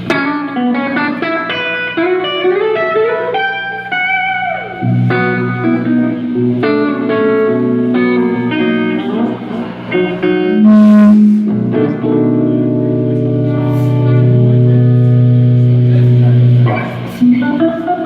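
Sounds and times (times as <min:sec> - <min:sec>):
guitar notes and chords: 0:00.0 - 0:18.0.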